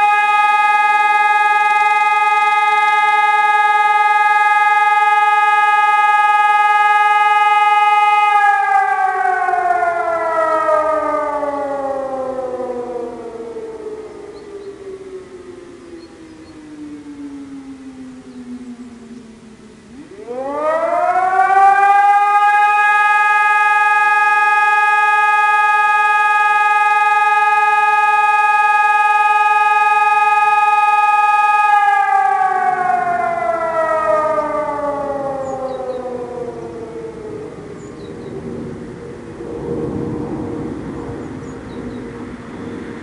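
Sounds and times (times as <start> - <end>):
siren howling: 0.0 - 43.0.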